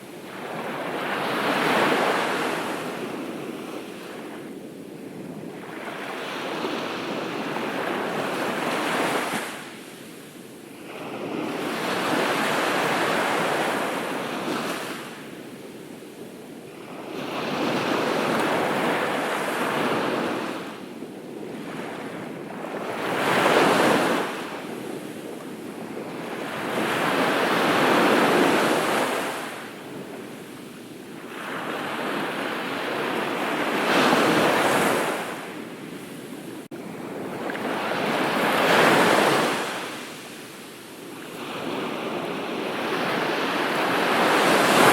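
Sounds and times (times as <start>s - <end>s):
waves breaking on beach: 0.0s - 15.5s, 16.2s - 44.9s.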